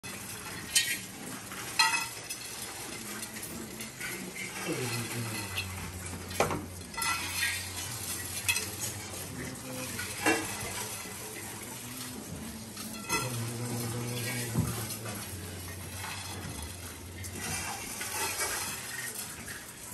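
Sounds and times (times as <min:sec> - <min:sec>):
rice grains scraping over metal: 0:00.1 - 0:19.9.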